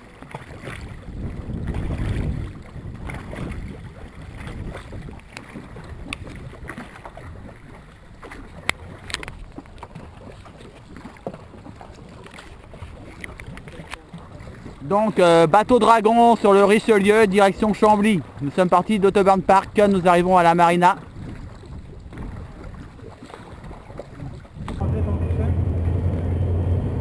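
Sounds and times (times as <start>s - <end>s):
paddles splashing in water: 0.0s - 27.0s
wind buffeting microphone: 0.4s - 27.0s.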